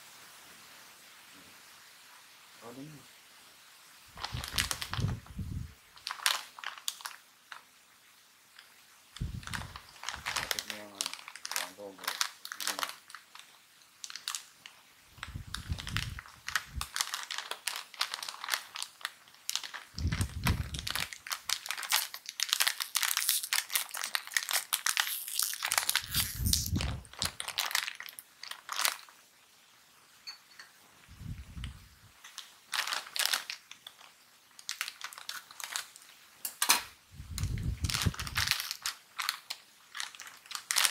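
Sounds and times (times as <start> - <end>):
plastic bags crinkling: 4.2 - 7.7, 8.6 - 29.2, 31.6 - 40.9.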